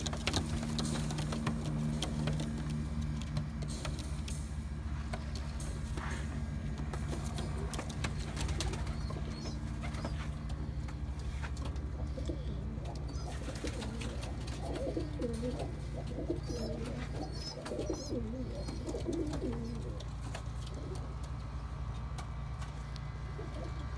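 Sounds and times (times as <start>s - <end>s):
pigeons cooing: 0.0s - 22.0s, 23.1s - 23.9s
steady low hum: 0.0s - 23.9s.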